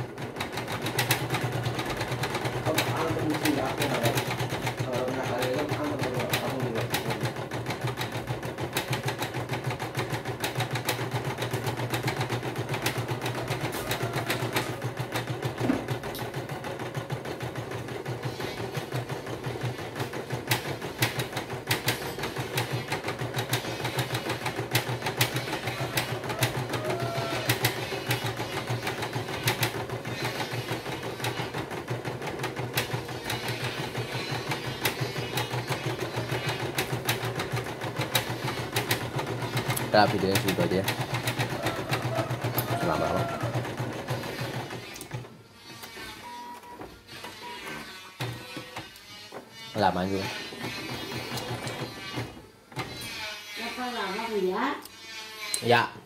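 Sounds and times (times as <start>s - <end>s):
embroidery machine needle patter: 0.0s - 56.0s.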